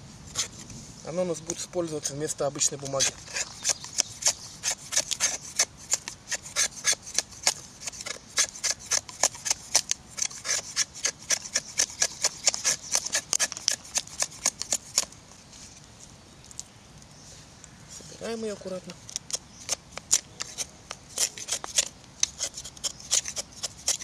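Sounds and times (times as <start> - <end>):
knife scraping wood: 0.3 - 0.8, 1.5 - 15.8, 19.0 - 24.0.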